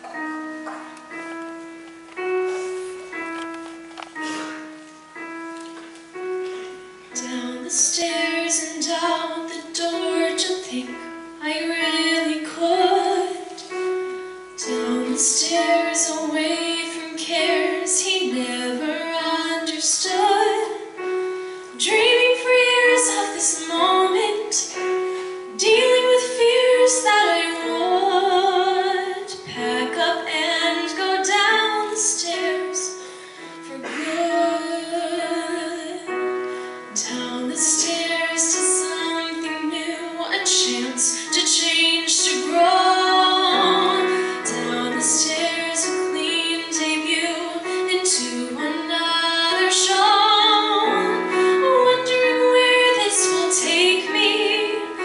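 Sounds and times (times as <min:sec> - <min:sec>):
grand piano accompaniment: 0:00.0 - 0:55.0
woman singing: 0:07.1 - 0:13.8, 0:14.6 - 0:21.0, 0:21.7 - 0:33.0, 0:33.6 - 0:55.0.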